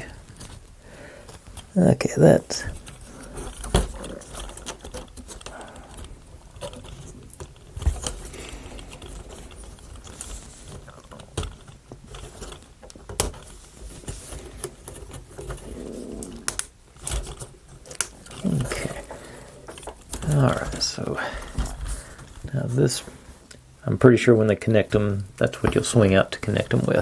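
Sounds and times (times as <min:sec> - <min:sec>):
wooden parts clicking and knocking: 0:00.0 - 0:22.9
handling rustle: 0:00.0 - 0:23.5.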